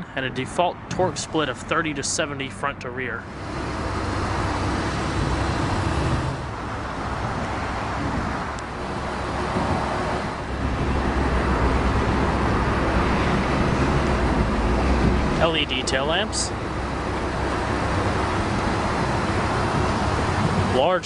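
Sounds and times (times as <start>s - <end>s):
low engine rumble: 0.0s - 21.0s
road and traffic hiss: 0.0s - 21.0s.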